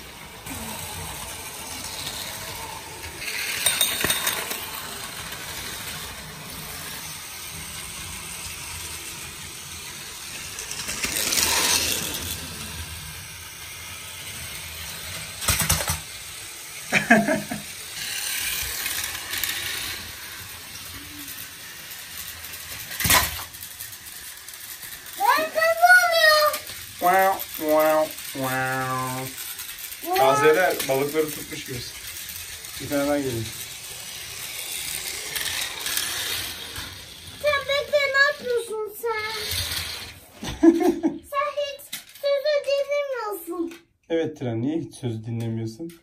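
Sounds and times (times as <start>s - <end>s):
toy train wheels rattling: 0.0s - 43.8s
toy train motors whirring: 0.0s - 44.0s.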